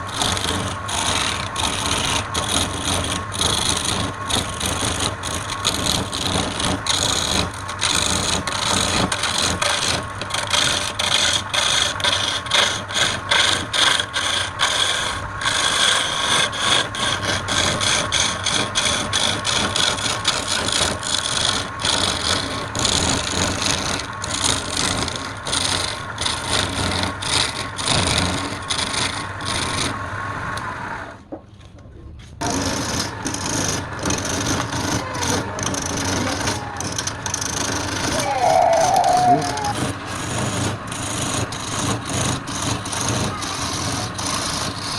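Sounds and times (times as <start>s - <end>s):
wood lathe motor hum: 0.0s - 31.1s, 32.4s - 44.9s
tool scraping spinning wood: 0.0s - 31.3s, 32.2s - 44.9s.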